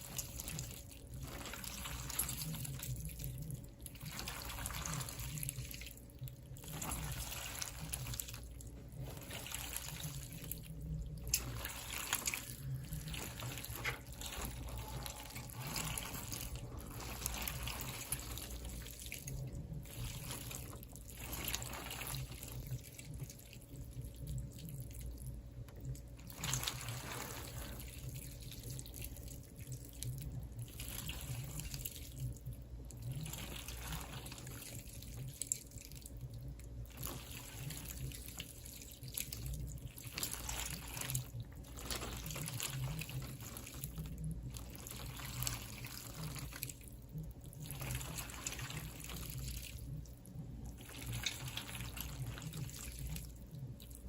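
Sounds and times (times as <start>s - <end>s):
low steady hum: 0.0s - 54.0s
water trickling and splashing: 0.0s - 54.0s.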